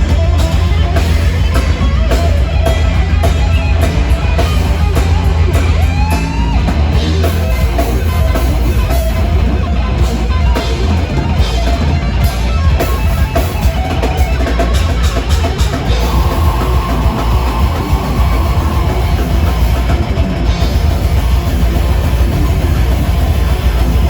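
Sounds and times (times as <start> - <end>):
metal band playing: 0.0 - 24.0.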